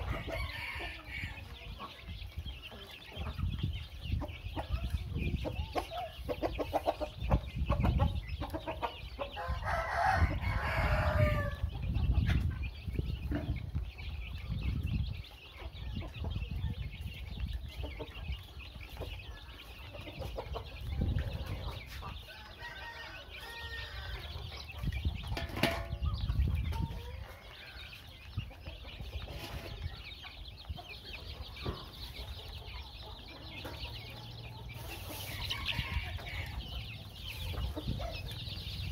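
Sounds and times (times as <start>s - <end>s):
chickens pecking at feed: 0.0s - 38.9s
young chickens clucking and peeping: 0.0s - 38.9s.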